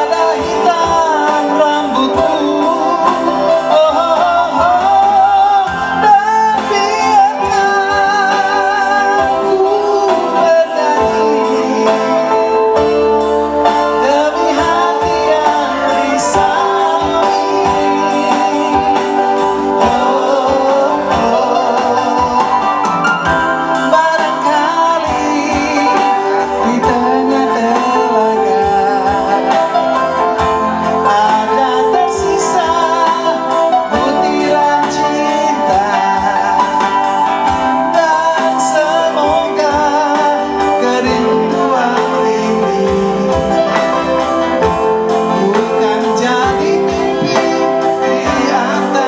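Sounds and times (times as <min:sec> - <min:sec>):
guitar chords: 0:00.0 - 0:49.0.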